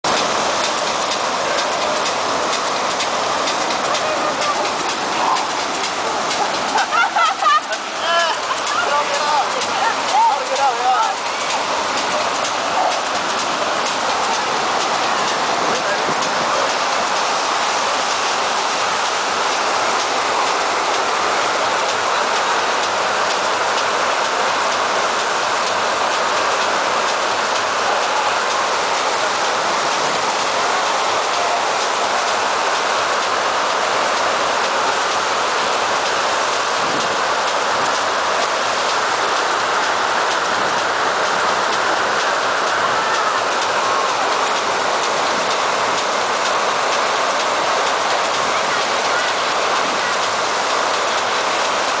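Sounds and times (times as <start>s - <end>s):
rushing pumped water: 0.0s - 52.0s.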